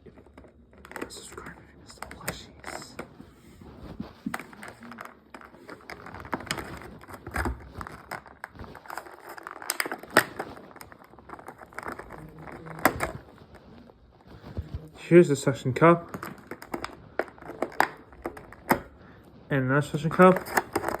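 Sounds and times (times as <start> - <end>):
packaging clicks and scrapes: 0.0 - 21.0
plastic and cardboard crinkling: 0.0 - 21.0.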